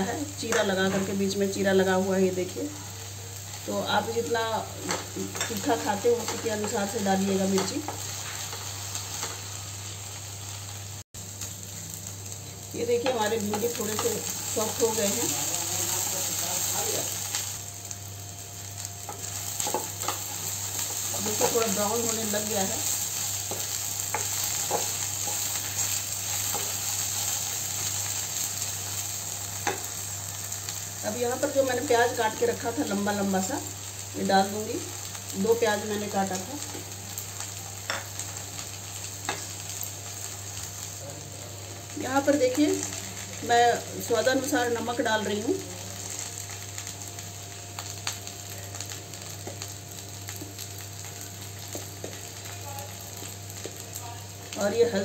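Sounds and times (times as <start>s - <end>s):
vegetables sizzling in oil: 0.0s - 55.0s.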